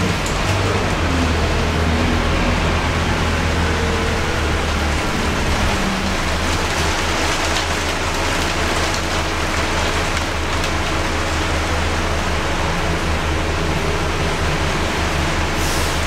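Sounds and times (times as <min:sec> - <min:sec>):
diesel engine drone: 0:00.0 - 0:16.0
rain hissing on bus: 0:00.0 - 0:16.0.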